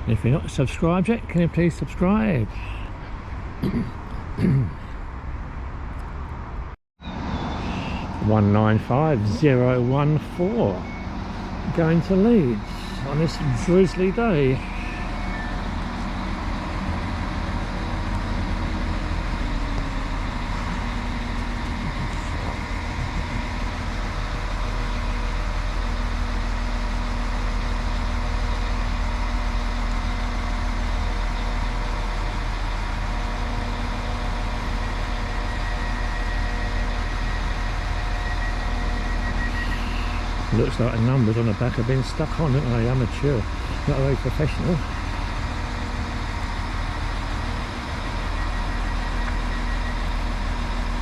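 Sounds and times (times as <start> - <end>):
diesel train engine running: 0.0 - 51.0.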